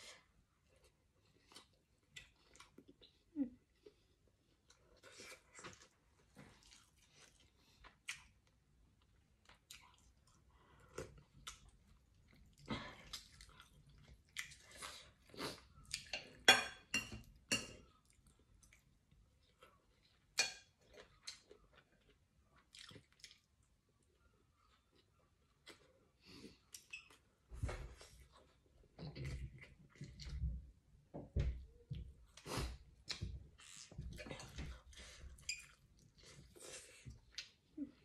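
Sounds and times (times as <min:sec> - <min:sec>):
person chewing food: 0:00.5 - 0:16.5, 0:17.2 - 0:27.4, 0:32.0 - 0:37.8.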